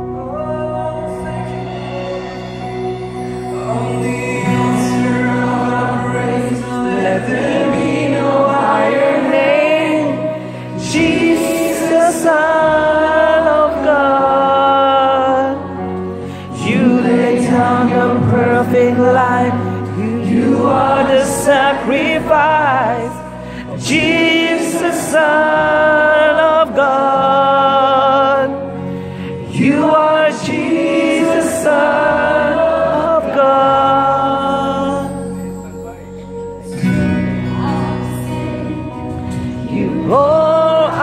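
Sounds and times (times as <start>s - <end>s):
voices singing worship song: 0.0s - 35.7s, 36.7s - 41.0s
sustained chords: 0.0s - 41.0s.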